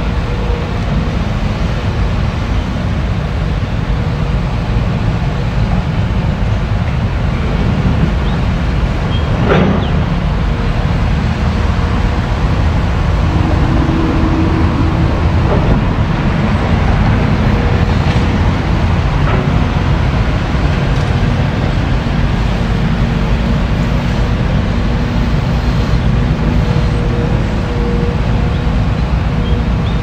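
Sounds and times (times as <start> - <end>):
excavator diesel engine rumbling: 0.0 - 30.0.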